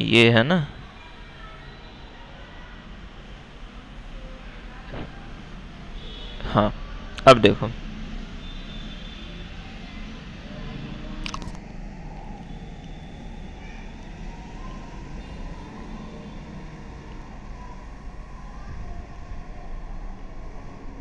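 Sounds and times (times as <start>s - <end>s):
low background rumble: 0.3s - 21.0s.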